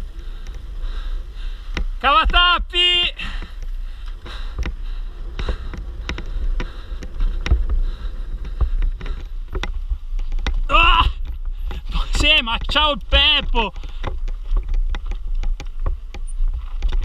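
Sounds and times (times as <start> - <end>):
bike clacking over rocks: 0.0 - 17.0
wind rumble on microphone: 0.0 - 17.0.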